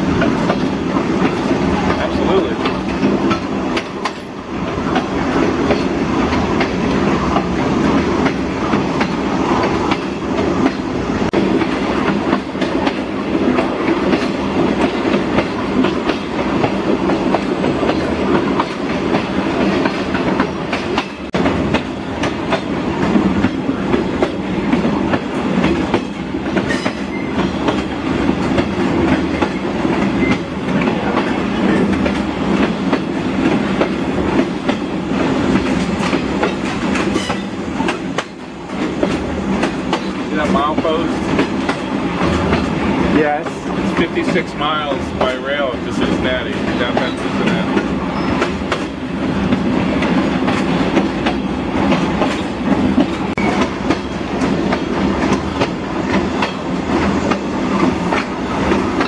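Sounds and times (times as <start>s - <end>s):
wheels clicking over rail joints: 0.0s - 59.0s
wheels rumbling on rails: 0.0s - 59.0s.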